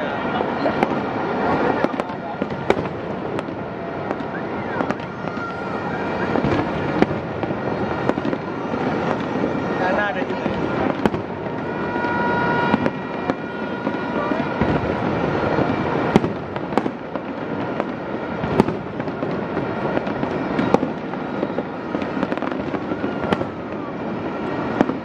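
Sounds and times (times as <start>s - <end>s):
fireworks rumble and crackle: 0.0s - 25.0s.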